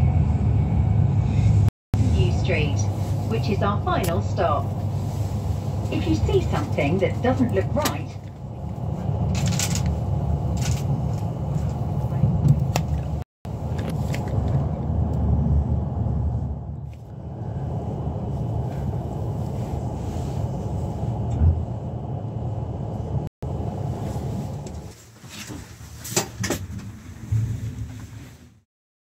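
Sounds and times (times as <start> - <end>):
train running on track: 0.0 - 28.4.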